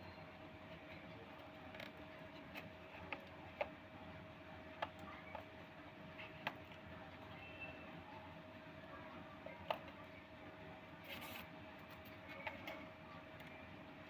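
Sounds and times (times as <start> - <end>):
faint hum and hiss: 0.0 - 14.0.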